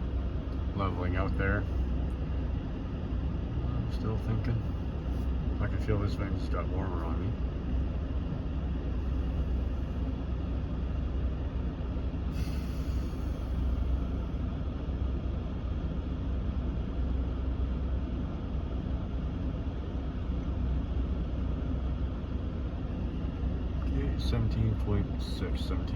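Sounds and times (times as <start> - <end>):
air blowing from vents: 0.0 - 25.9
idling engine rumble: 0.0 - 25.9.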